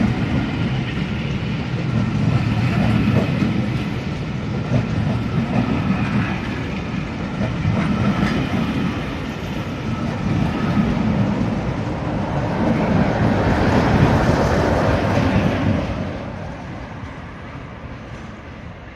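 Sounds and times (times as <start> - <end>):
passenger train rolling past: 0.0 - 18.9.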